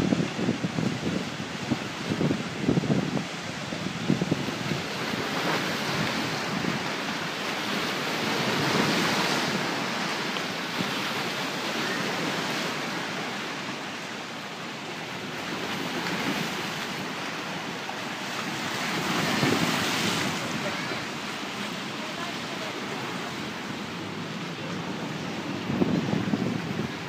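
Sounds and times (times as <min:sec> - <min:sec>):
wind: 0:00.0 - 0:27.0
lake water splashing: 0:00.9 - 0:27.0.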